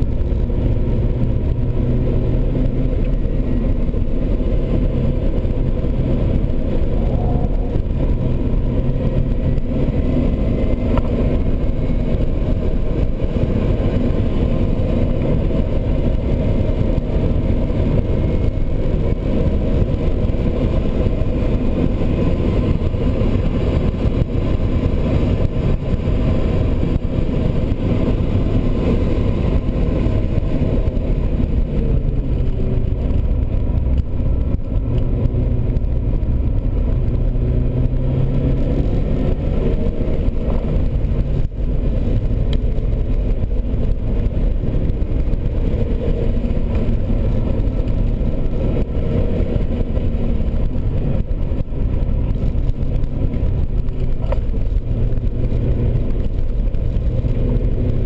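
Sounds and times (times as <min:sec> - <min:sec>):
road noise: 0:00.0 - 0:58.0
sports car engine: 0:00.0 - 0:58.0.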